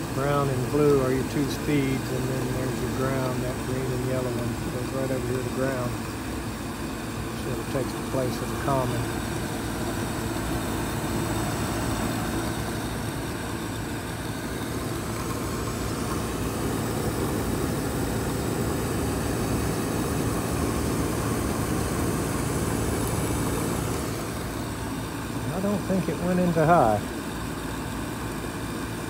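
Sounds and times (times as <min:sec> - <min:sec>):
gas furnace running: 0:00.0 - 0:29.0.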